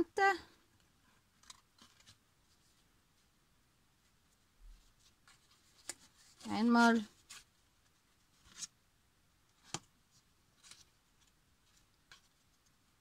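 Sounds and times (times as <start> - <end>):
soft paper rustles: 0.4 - 3.4, 4.0 - 8.8, 9.5 - 13.0.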